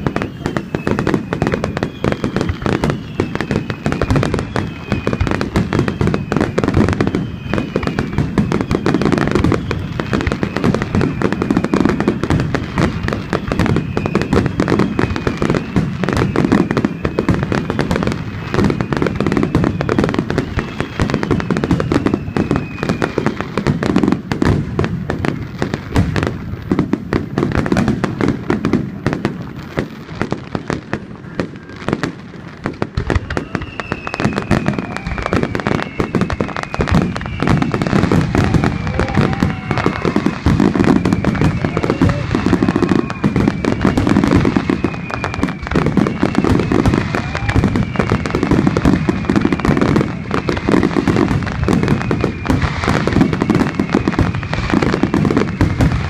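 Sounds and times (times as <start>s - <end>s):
falling firework whistles: 0.0s - 56.0s
fireworks bursting and crackling: 0.0s - 56.0s.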